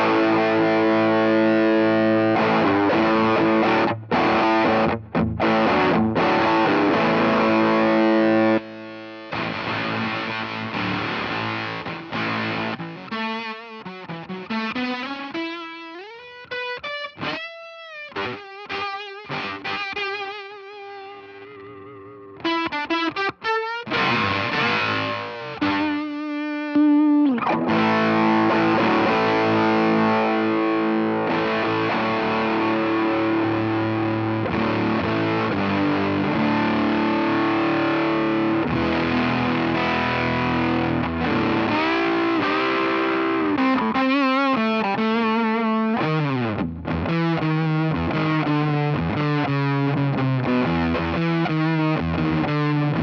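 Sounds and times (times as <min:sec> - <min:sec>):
fuzzed electric guitar: 0:00.0 - 0:53.0.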